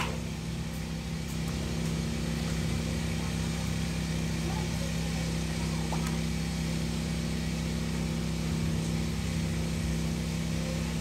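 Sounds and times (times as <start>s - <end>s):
small motor humming: 0.0s - 11.0s.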